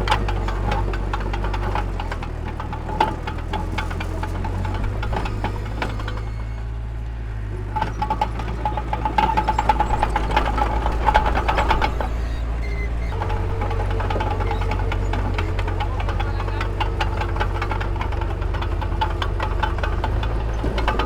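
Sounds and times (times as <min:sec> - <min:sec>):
metallic clanking and rattling: 0:00.0 - 0:06.8, 0:07.5 - 0:21.0
heavy machinery engine rumbling: 0:00.0 - 0:21.0.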